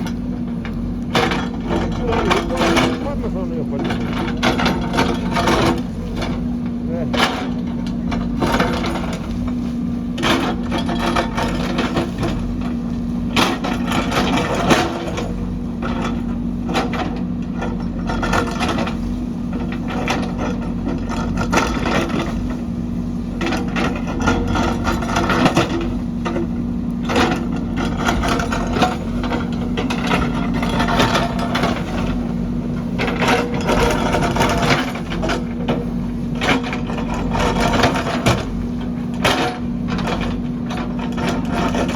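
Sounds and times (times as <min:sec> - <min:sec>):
diesel engine running: 0:00.0 - 0:41.9
machine knocks and clatters: 0:00.0 - 0:41.9.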